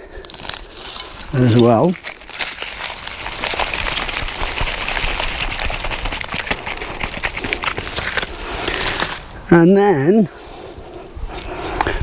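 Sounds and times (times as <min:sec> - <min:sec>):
foliage and soil rustling: 0:00.0 - 0:12.0.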